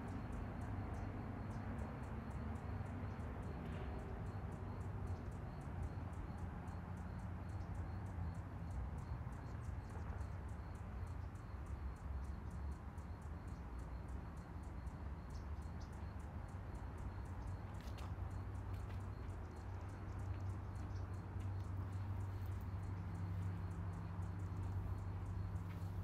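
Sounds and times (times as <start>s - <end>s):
constant low rumble: 0.0s - 26.0s
crickets chirping: 0.0s - 26.0s.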